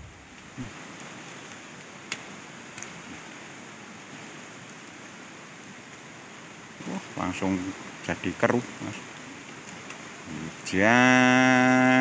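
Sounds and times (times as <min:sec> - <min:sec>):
fast-flowing river: 0:00.0 - 0:12.0
steady rain: 0:00.0 - 0:12.0.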